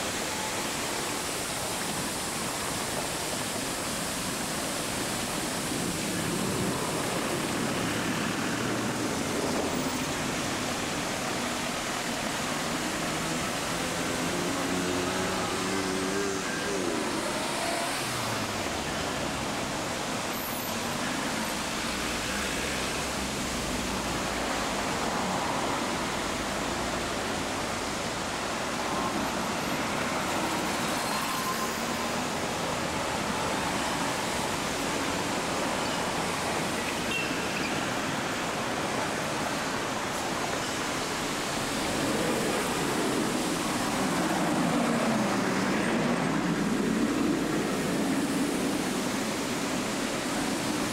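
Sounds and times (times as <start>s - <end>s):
road traffic: 0.0s - 50.9s.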